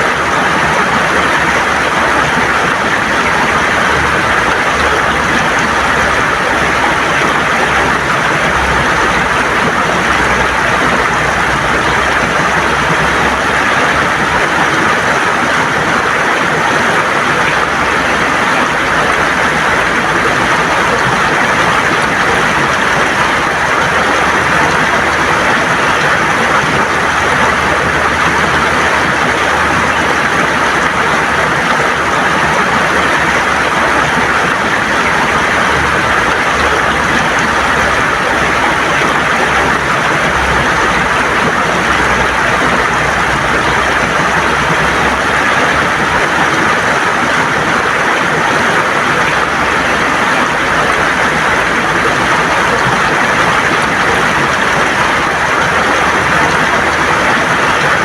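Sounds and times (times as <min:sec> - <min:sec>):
river gurgling over stones: 0:00.0 - 0:58.0.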